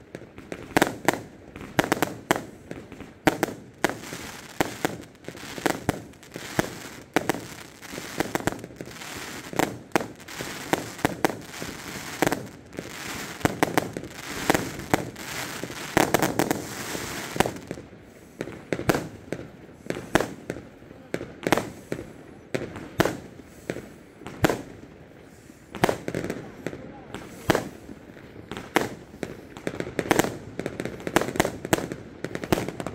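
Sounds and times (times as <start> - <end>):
fireworks bangs: 0.0 - 24.9, 25.7 - 32.9
fireworks crackling: 0.0 - 32.9.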